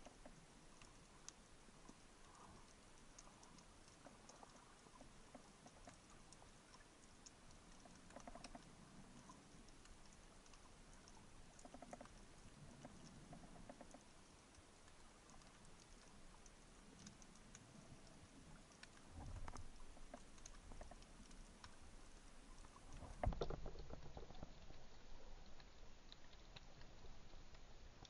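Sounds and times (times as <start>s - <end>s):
underwater crackle of clicks: 0.0s - 28.0s.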